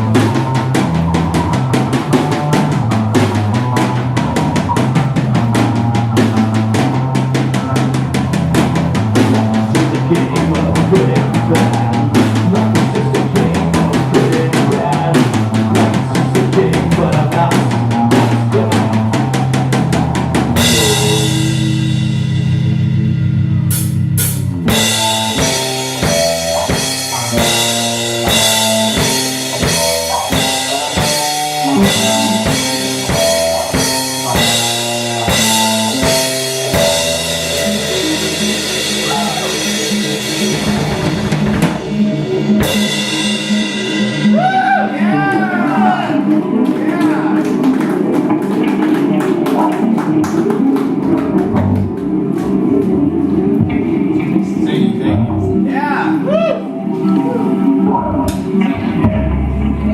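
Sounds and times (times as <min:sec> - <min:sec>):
drum hits: 0:00.0 - 0:53.0
choppy guitar chords: 0:00.0 - 0:59.9
live rock band playing: 0:00.0 - 0:59.9.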